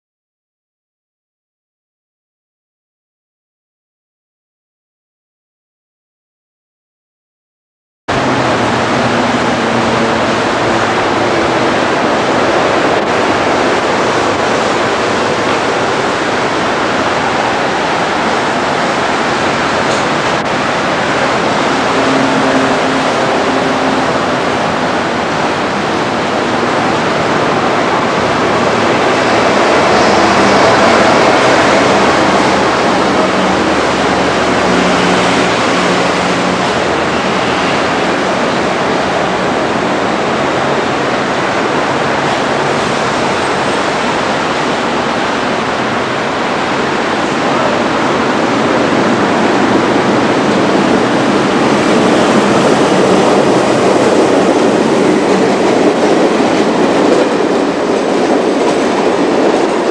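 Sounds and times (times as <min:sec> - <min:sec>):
electric train rumbling over bridge: 0:08.1 - 0:59.9.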